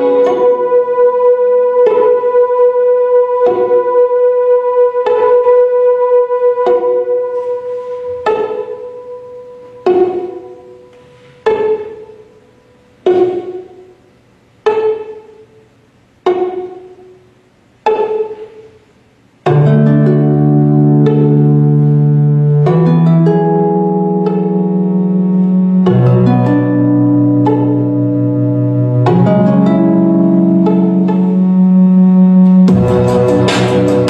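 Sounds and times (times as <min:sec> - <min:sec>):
sustained string chord: 0:00.0 - 0:13.9, 0:19.4 - 0:34.0
plucked notes: 0:00.0 - 0:34.0.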